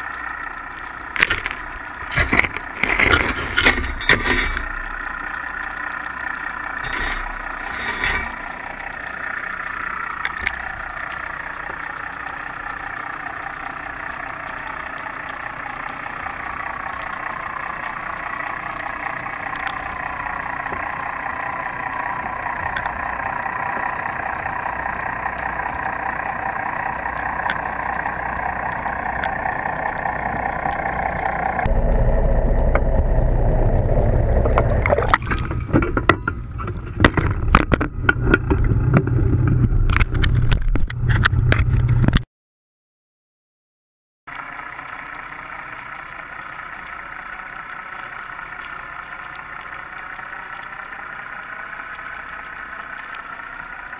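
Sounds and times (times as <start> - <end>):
deep rumble: 0.0 - 42.2, 44.4 - 53.9
underwater machinery hum: 0.0 - 42.2, 44.3 - 53.9.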